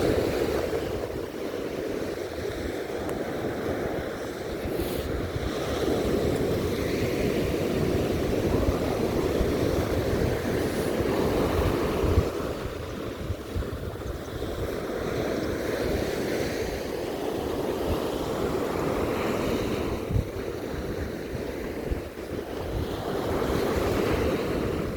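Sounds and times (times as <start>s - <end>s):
sea waves breaking on beach: 0.0s - 24.9s
wind buffeting microphone: 0.0s - 24.9s.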